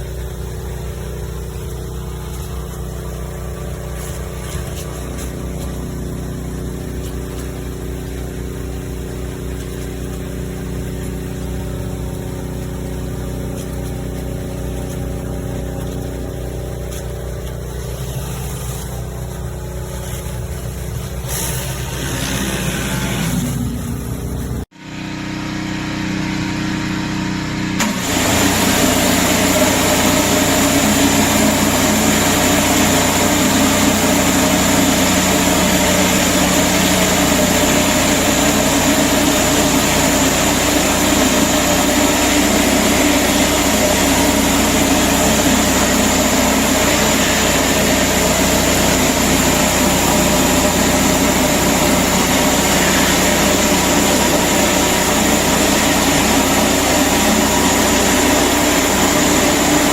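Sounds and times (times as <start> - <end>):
high-pressure water spray hiss: 0.0 - 24.6, 27.8 - 59.9
pressure washer engine running: 0.0 - 59.9.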